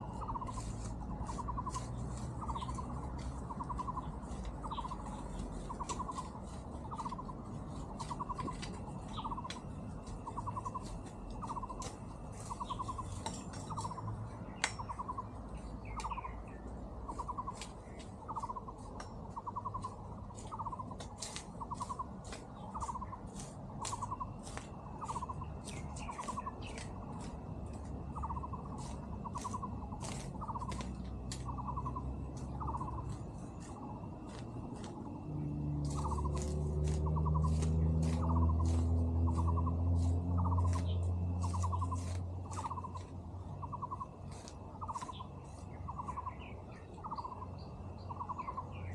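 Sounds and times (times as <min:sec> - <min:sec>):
small animal trilled call: 0:00.0 - 0:48.9
steady low hum: 0:00.0 - 0:48.9.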